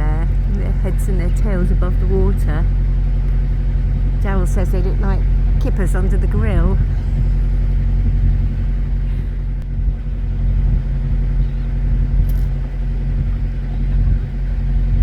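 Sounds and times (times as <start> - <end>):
boat diesel engine drone: 0.0 - 15.0.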